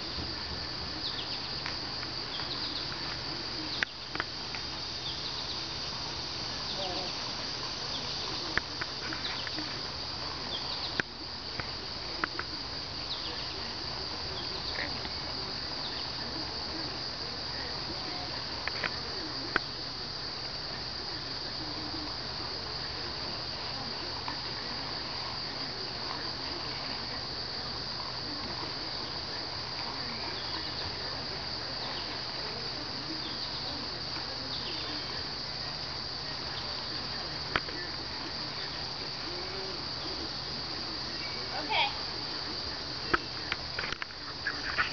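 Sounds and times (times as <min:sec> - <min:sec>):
insects chirring: 0:00.0 - 0:44.9.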